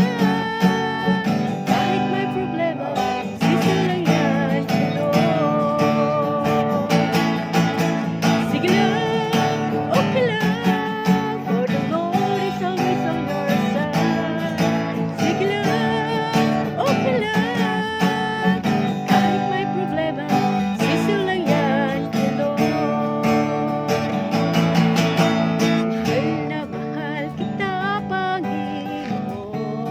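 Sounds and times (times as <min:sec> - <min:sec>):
acoustic guitar music: 0:00.0 - 0:29.9
person singing: 0:00.0 - 0:29.9.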